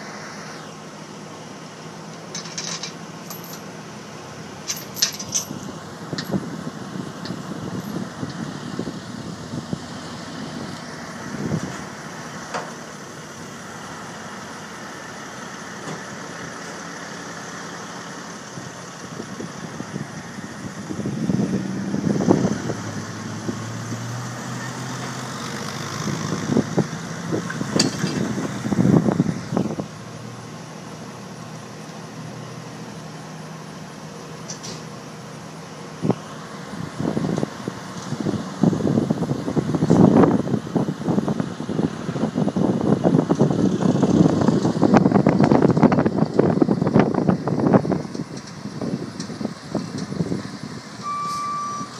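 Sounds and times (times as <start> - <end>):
highway traffic passing: 0.0 - 51.9.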